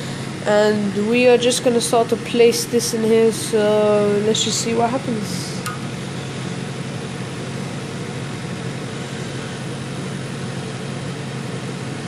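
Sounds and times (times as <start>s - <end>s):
gas hob hiss and rumble: 0.0s - 12.0s.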